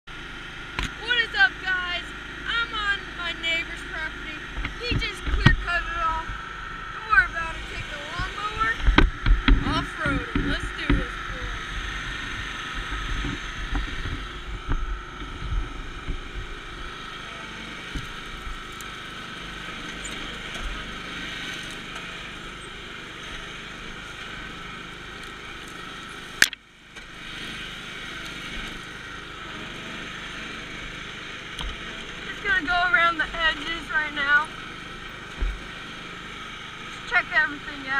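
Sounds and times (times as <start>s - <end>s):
riding lawn mower engine running: 0.1s - 37.9s.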